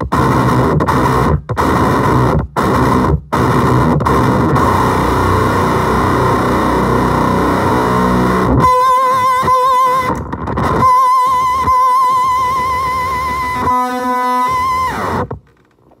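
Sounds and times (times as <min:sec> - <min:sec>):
fuzzy electric guitar: 0:00.0 - 0:16.0.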